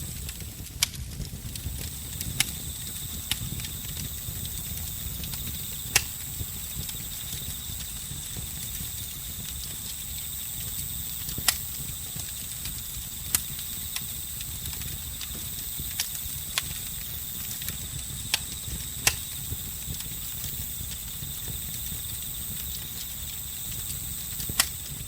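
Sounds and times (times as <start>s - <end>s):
campfire crackling: 0.0s - 25.0s
fire popping: 0.0s - 25.0s
crickets trilling: 1.6s - 25.0s.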